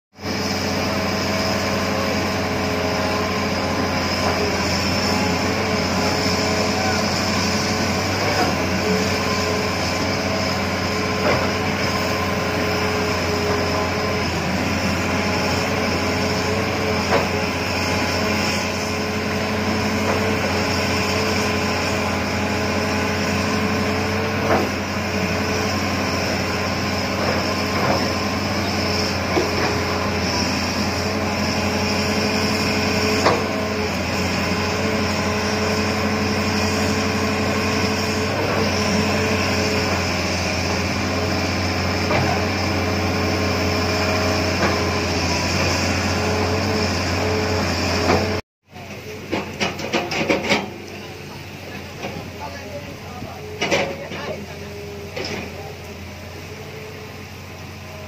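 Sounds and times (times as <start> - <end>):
excavator diesel engine running: 0.2 - 58.0.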